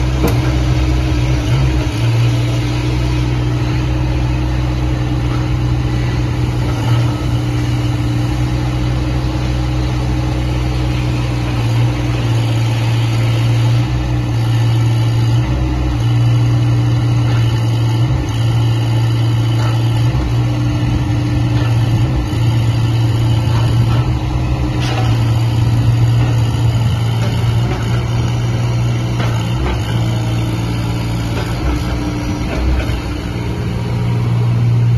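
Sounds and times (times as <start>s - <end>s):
mini excavator engine running: 0.0s - 34.9s.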